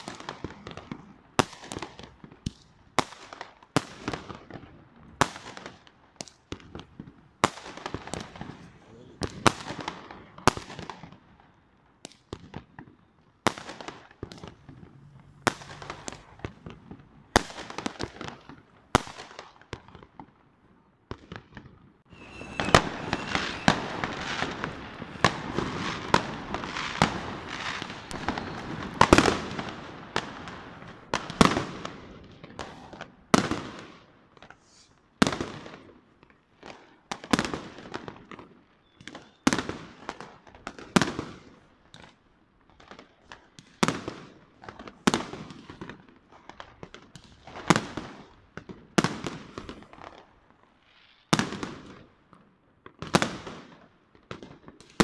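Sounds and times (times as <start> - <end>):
fireworks and firecrackers banging: 0.0 - 55.0.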